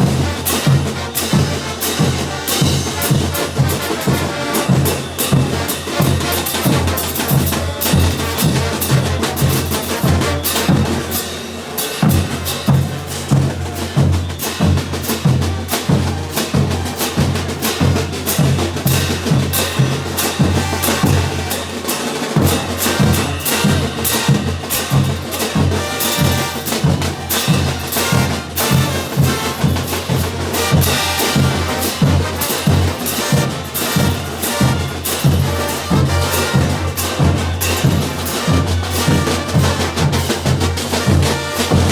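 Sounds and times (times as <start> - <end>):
drums and cymbals beating: 0.0 - 41.9.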